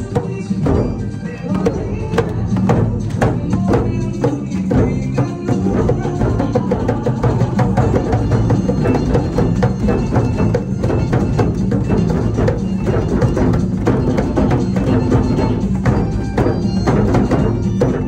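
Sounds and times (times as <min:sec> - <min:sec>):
hand drums playing: 0:00.0 - 0:18.0.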